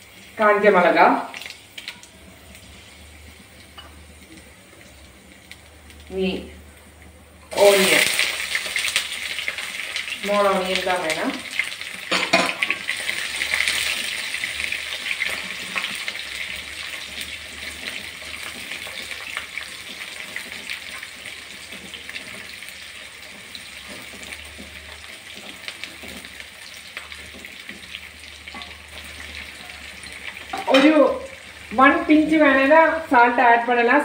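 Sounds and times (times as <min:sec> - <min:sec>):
shallots sizzling in oil: 0:00.0 - 0:34.0.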